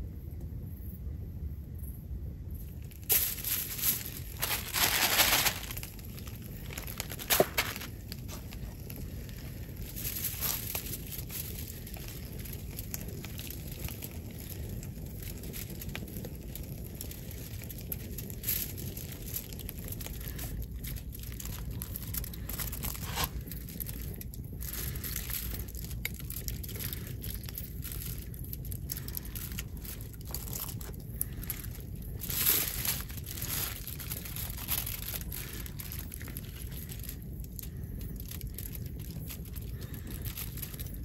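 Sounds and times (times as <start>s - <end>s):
low rumble: 0.0s - 41.0s
aluminium foil crinkling: 2.6s - 41.0s.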